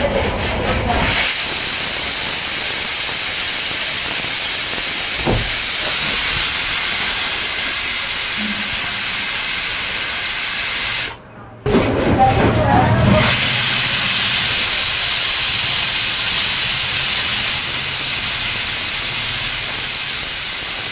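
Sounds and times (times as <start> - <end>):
pressure cooker whistle hissing: 1.1 - 11.2, 13.3 - 20.9.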